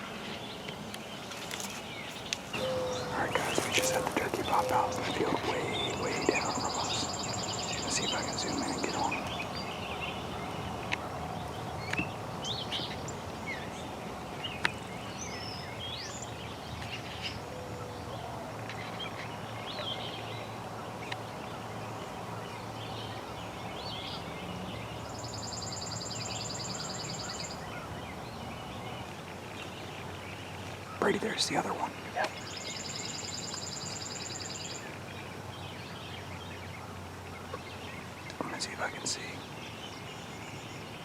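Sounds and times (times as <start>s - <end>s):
songbirds chirping: 0.0s - 41.0s.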